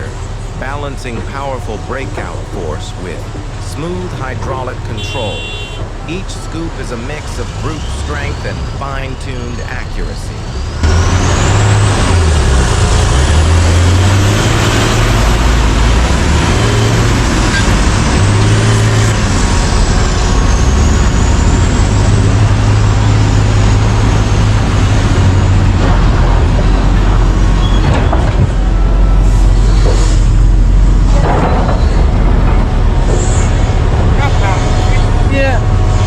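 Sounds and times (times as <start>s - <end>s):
excavator diesel engine: 0.0s - 36.0s.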